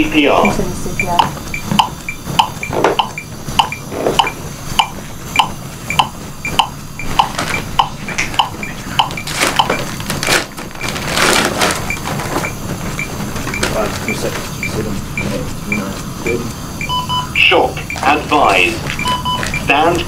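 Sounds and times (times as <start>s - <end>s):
higher beep: 0.0s - 9.8s, 11.8s - 12.6s, 13.5s - 20.0s
metronome beeping: 0.0s - 9.9s, 11.8s - 20.0s.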